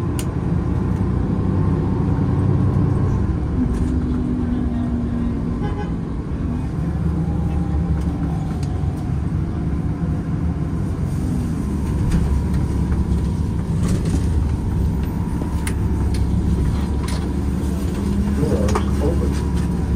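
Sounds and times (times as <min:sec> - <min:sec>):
bus engine and road noise: 0:00.0 - 0:19.9.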